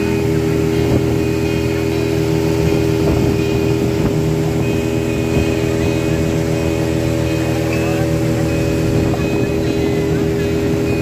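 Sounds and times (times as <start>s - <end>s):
hull moving through water: 0.0s - 11.0s
motorboat engine running: 0.0s - 11.0s.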